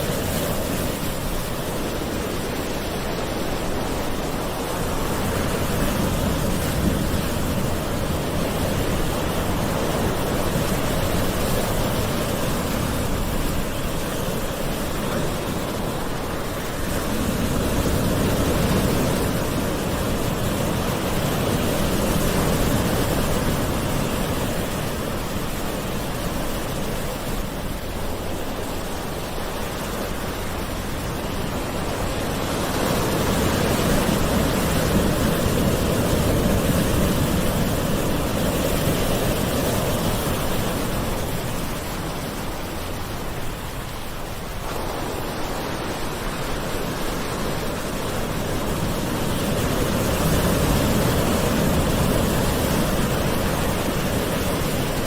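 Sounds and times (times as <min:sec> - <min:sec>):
ocean waves washing ashore: 0:00.0 - 0:55.0.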